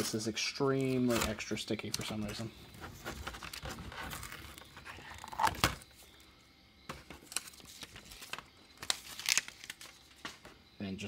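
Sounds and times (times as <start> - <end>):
paper crackles: 0.0 - 5.8, 7.2 - 10.5
paper peeling and rustling: 0.0 - 5.8, 7.2 - 10.5.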